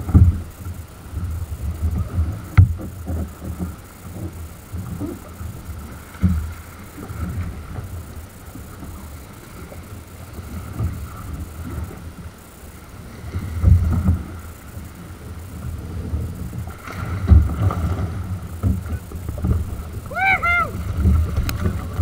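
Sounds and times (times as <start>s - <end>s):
water slapping kayak hull: 0.0s - 22.0s.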